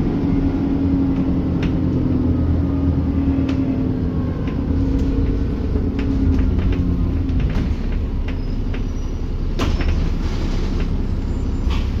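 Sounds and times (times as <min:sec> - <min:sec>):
bus engine and road rumble: 0:00.0 - 0:12.0
rattles and clicks of bus body: 0:00.0 - 0:12.0.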